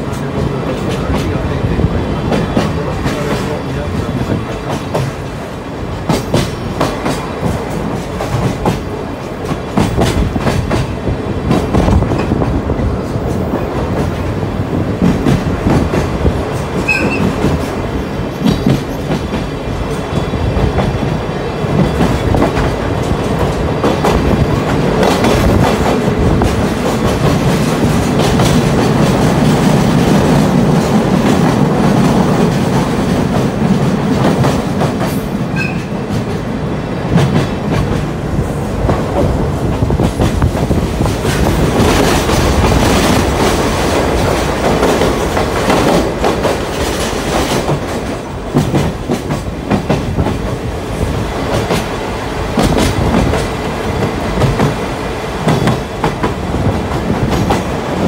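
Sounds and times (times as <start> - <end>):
train wheels clacking over rail joints: 6.0 - 36.4, 38.8 - 50.7, 51.4 - 58.0.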